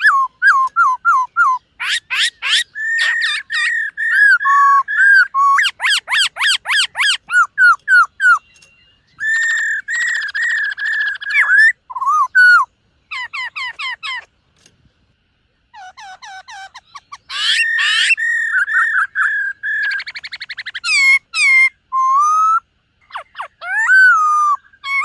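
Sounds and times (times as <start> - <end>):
bird singing whistled song: 0.0 - 14.3, 15.8 - 25.0.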